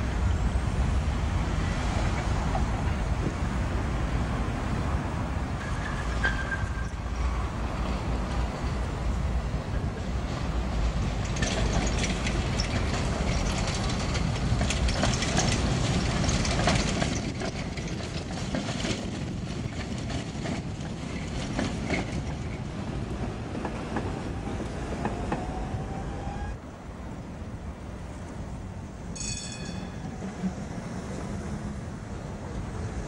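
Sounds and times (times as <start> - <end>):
tram wheels clattering over rails: 0.0 - 26.5, 29.0 - 33.0.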